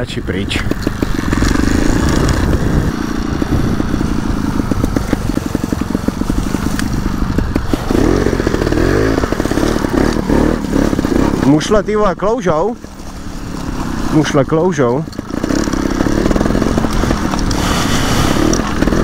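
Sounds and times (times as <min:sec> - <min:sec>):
two-stroke motorcycle engine revving: 0:00.0 - 0:19.0.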